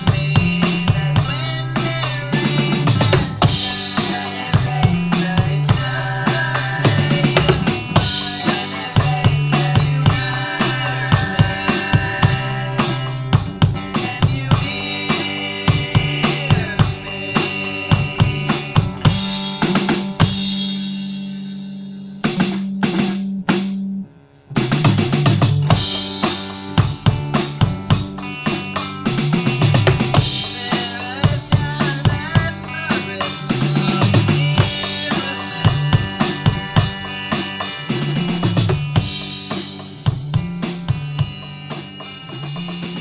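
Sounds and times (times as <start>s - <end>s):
drum kit playing a beat: 0.0s - 43.0s.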